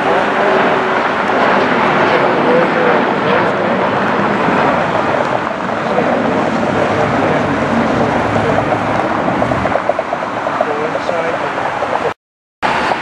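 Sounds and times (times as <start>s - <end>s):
vehicle rushing roar: 0.0s - 13.0s.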